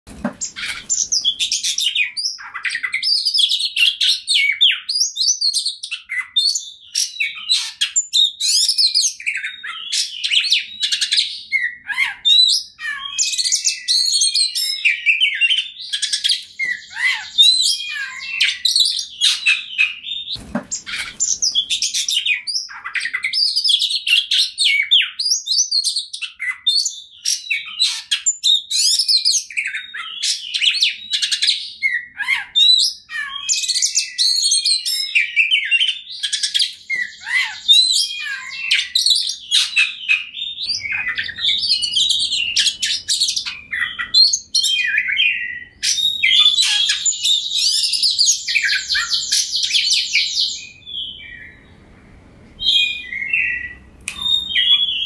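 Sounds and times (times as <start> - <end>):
magpie-robin singing: 0.4 - 51.8, 52.6 - 55.0.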